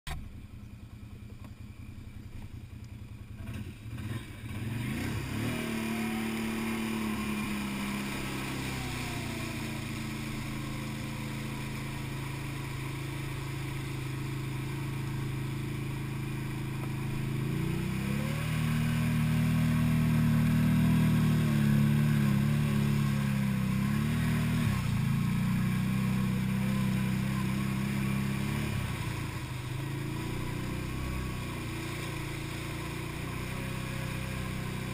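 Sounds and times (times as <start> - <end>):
quad engine revving under load: 3.3 - 34.9
water splashing: 4.9 - 34.9.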